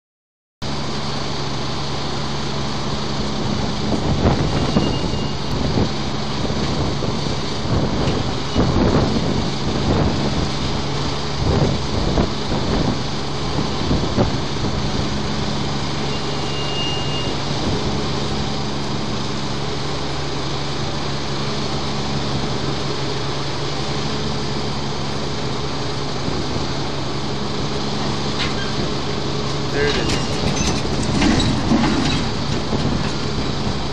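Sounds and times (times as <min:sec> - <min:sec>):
diesel engines running: 0:00.6 - 0:33.9
bursts of machinery noise: 0:01.8 - 0:33.9.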